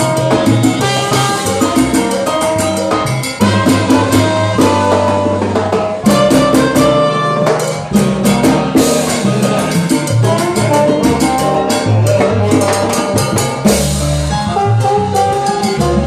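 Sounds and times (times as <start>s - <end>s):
congas and timbales: 0.0s - 16.0s
salsa band playing: 0.0s - 16.0s.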